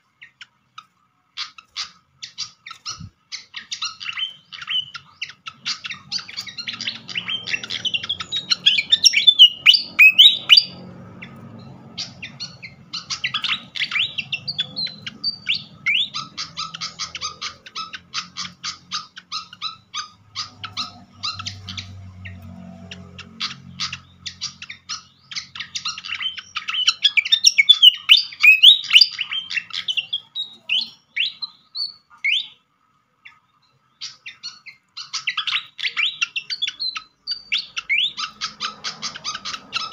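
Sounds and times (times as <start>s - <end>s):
bird chirping and twittering: 0.0s - 32.6s, 33.2s - 39.9s.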